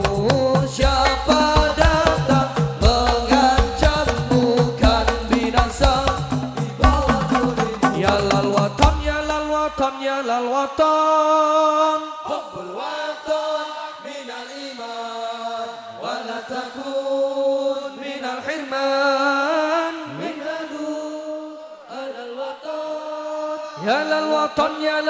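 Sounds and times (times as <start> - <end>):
solo voice singing: 0.0 - 25.0.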